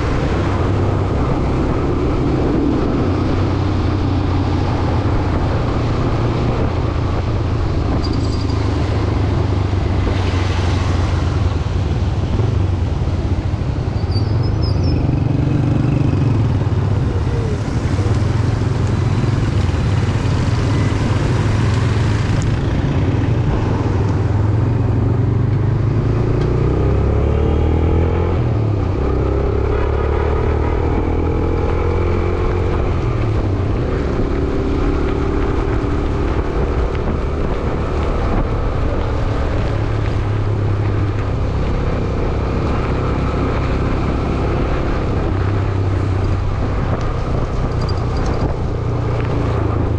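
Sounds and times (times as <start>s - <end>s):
road and wind noise: 0.0s - 49.9s.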